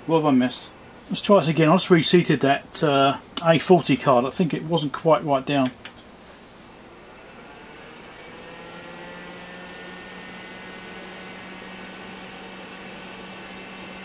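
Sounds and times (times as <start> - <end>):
electrical hum and whir: 0.0 - 14.0.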